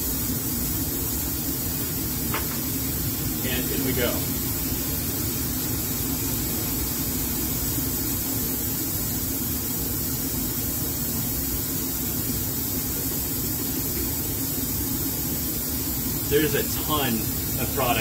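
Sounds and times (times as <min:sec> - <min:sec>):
constant low hum: 0:00.0 - 0:18.0
vacuum line hissing: 0:00.0 - 0:18.0.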